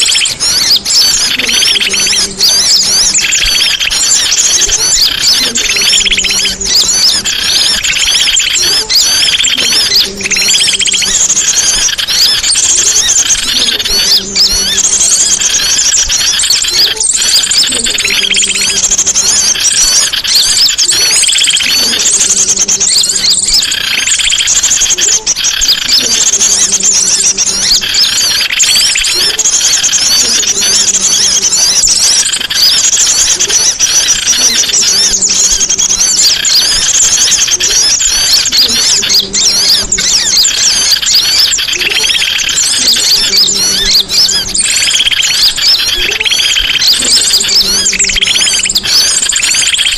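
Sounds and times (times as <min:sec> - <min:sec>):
songbird singing: 0:00.0 - 0:49.9.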